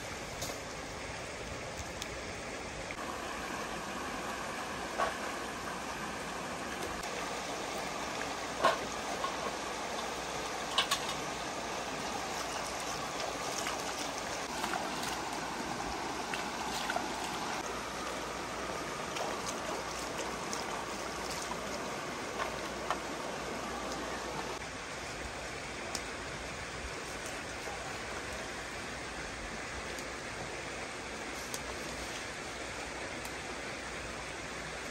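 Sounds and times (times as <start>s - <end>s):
stream flowing over stones: 0.0s - 34.9s.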